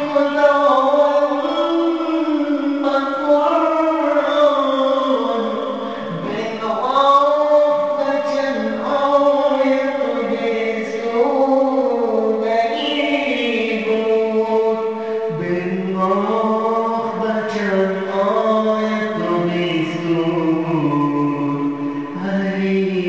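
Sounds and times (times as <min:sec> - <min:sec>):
voices chanting devotional song: 0:00.0 - 0:23.0.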